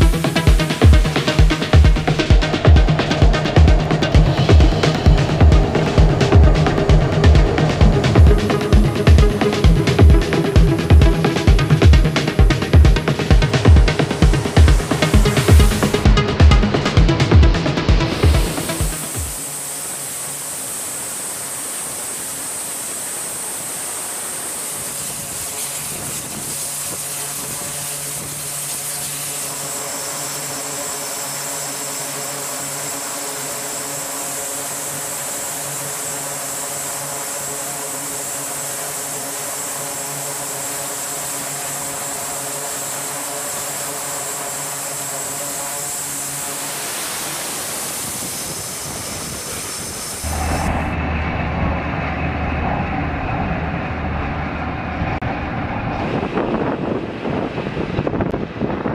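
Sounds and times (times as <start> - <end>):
low propeller drone: 0.0 - 58.9
turboprop engines roaring: 0.0 - 58.9.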